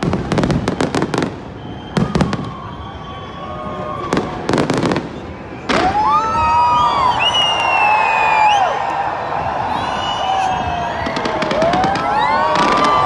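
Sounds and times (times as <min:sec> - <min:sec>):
fireworks bangs and crackles: 0:00.0 - 0:07.2, 0:09.0 - 0:13.0
crowd shouting and whooping: 0:00.8 - 0:13.0.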